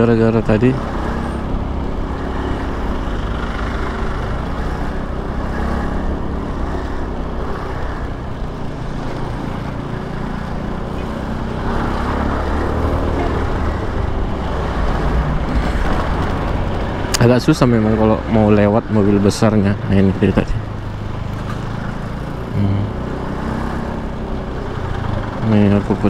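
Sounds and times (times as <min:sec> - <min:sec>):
motorcycle engine hum: 0:00.0 - 0:26.0
tyre and traffic noise: 0:00.0 - 0:26.0.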